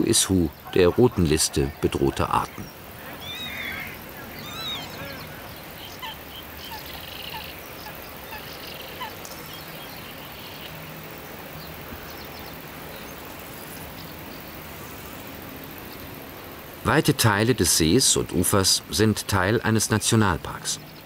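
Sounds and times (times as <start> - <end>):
birds calling and chirping: 0.0 - 21.0
outdoor background noise: 0.0 - 21.0.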